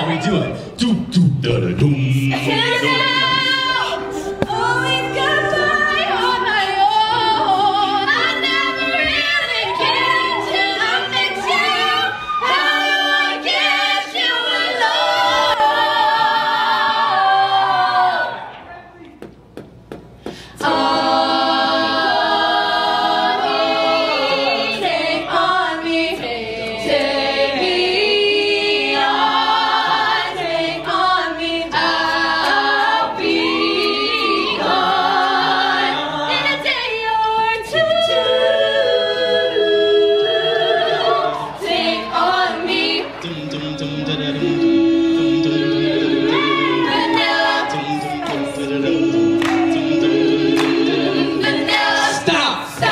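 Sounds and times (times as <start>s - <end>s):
a cappella group singing: 1.4s - 18.5s, 20.3s - 52.9s.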